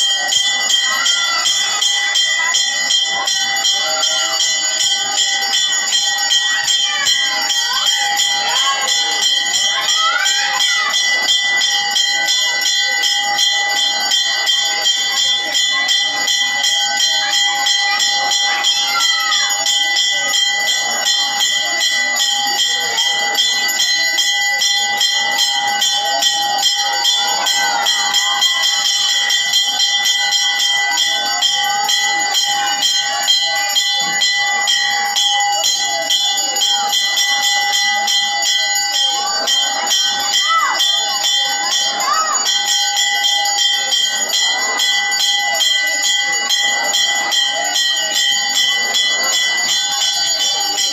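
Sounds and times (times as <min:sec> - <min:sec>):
temple bells ringing fast: 0:00.0 - 0:50.9.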